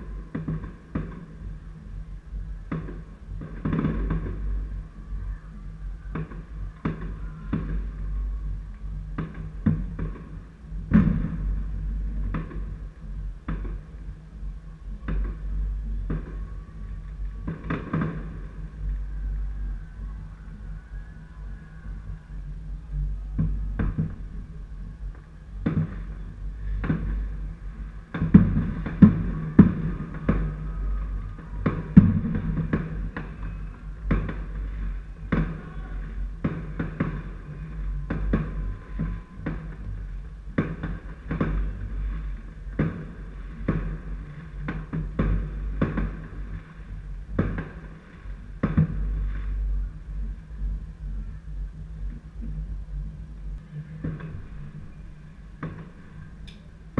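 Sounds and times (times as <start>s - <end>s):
distant fireworks bangs: 0.0s - 20.3s, 22.4s - 52.6s, 53.6s - 56.9s
steady low rumble: 0.0s - 56.9s.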